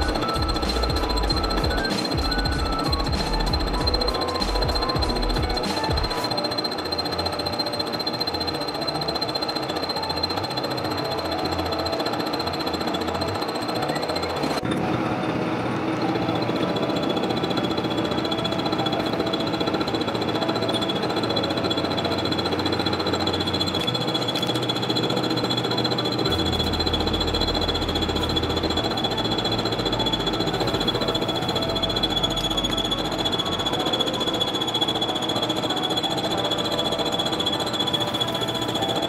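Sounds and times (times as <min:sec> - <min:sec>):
milling machine whine: 0:00.0 - 0:39.0.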